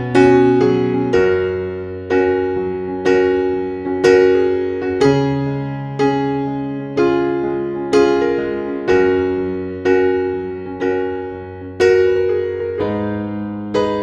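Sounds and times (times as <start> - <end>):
slow electric piano chords: 0.0 - 14.0.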